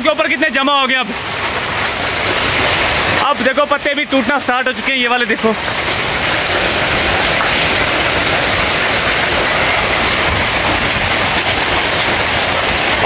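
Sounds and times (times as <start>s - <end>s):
hail and rain on leaves: 0.0s - 13.0s.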